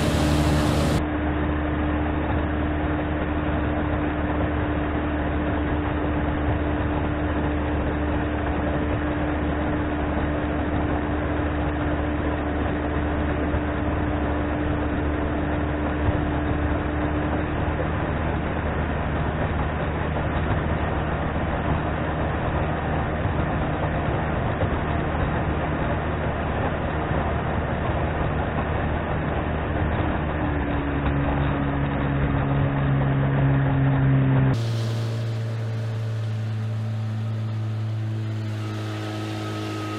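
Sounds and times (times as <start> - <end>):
outboard motor running: 0.0 - 39.9
rush of wind and water: 0.0 - 39.9.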